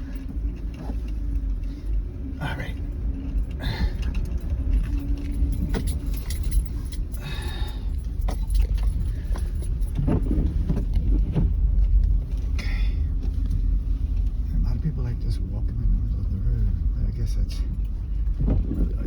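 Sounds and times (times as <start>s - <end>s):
engine and road rumble: 0.0s - 19.0s
light clicks and rattles: 0.0s - 19.0s.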